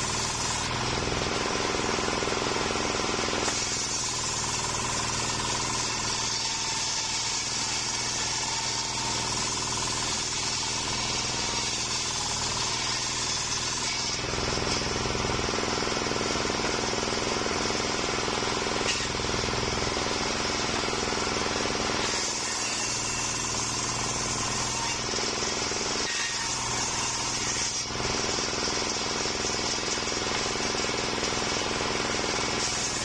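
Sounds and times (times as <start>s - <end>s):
circular saw blade cutting log: 0.0s - 33.0s.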